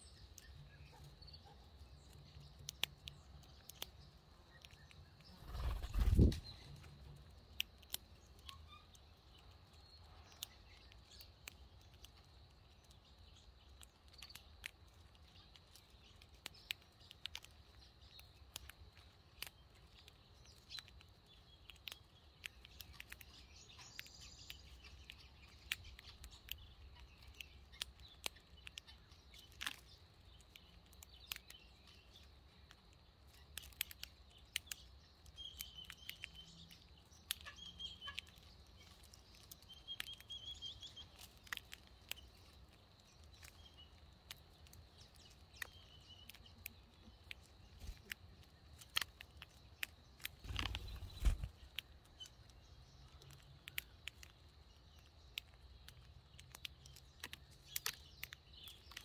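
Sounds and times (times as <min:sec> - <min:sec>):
faint high bird chirps: 0:00.0 - 0:14.6, 0:15.2 - 0:59.0
beaks clicking on grain: 0:00.1 - 0:59.0.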